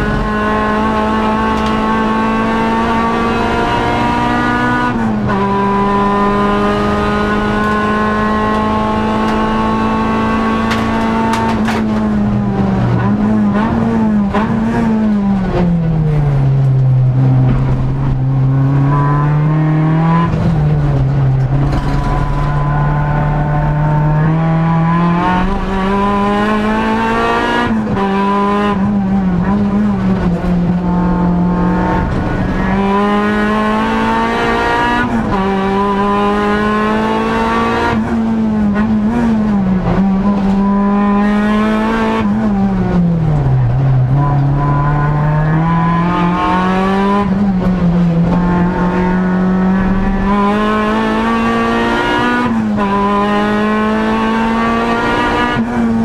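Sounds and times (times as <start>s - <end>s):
race car engine under load: 0.0s - 56.0s.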